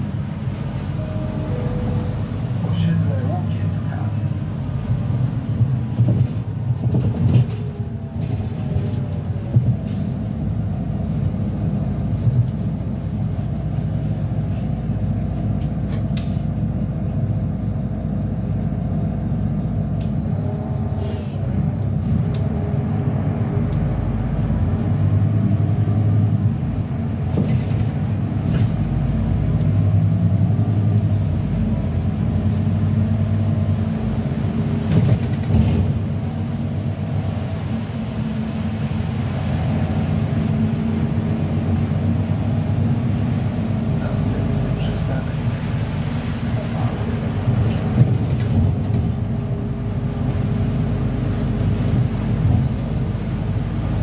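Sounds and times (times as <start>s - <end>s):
bus rumbling while driving: 0.0s - 54.0s.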